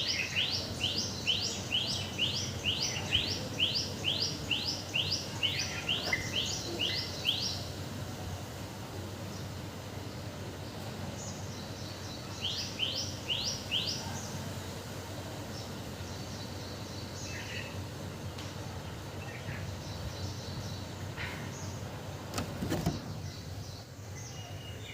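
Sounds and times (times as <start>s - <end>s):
outdoor background hum: 0.0s - 24.9s.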